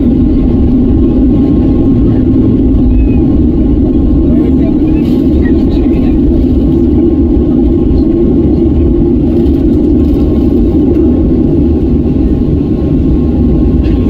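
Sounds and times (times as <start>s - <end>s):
jet engines low rumble: 0.0s - 14.0s.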